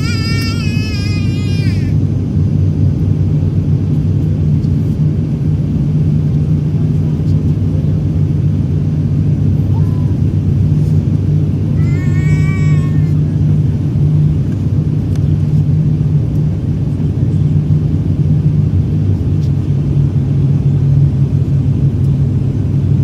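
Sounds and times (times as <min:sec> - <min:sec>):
jet engine rumble in cabin: 0:00.0 - 0:23.0.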